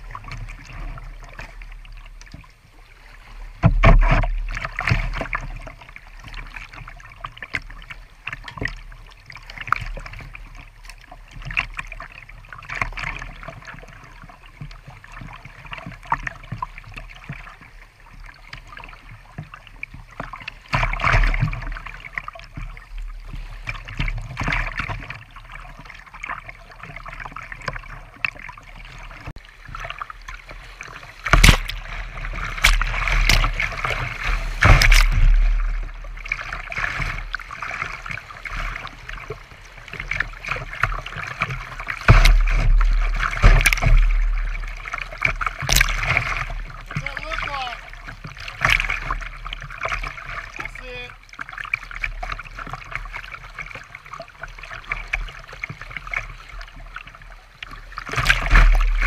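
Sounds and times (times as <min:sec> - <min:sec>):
rushing creek water: 0:00.0 - 0:59.0
water splashing over bow: 0:00.0 - 0:59.0
waves slapping a kayak hull: 0:00.0 - 0:59.0.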